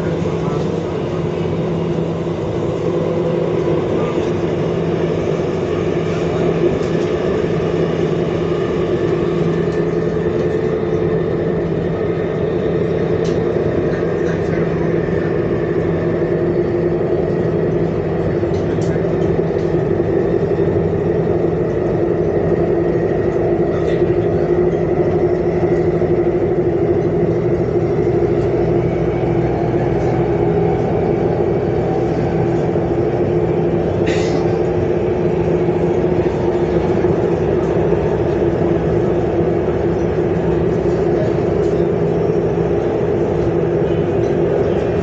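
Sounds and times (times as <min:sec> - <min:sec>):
train interior hum and rumble: 0:00.0 - 0:45.0.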